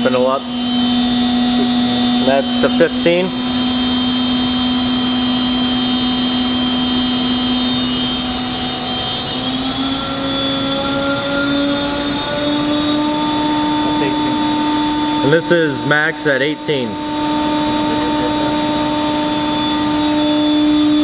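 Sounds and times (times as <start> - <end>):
machine spindle whine: 0.0 - 21.0.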